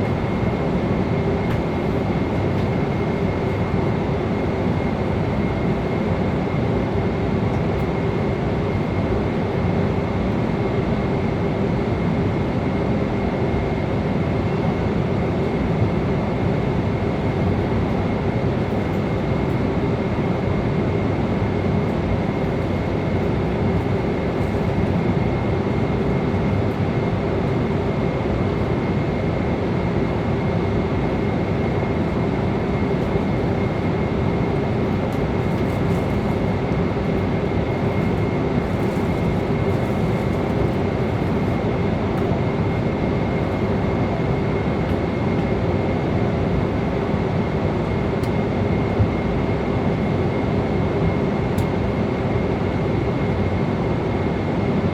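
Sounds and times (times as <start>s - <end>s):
airliner cabin roar: 0.0s - 54.9s.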